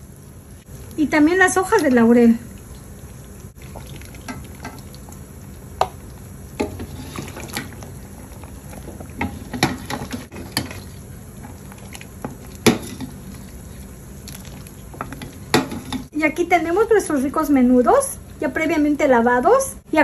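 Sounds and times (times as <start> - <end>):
broth bubbling in pot: 0.0 - 20.0.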